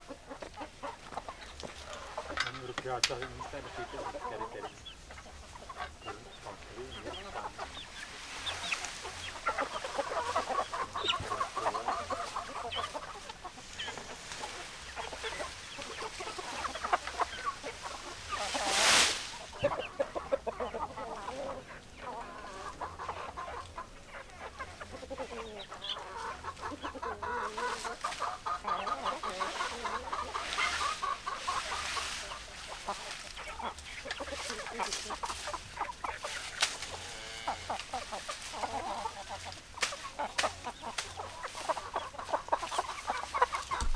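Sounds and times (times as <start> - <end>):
hens clucking: 0.0 - 43.9.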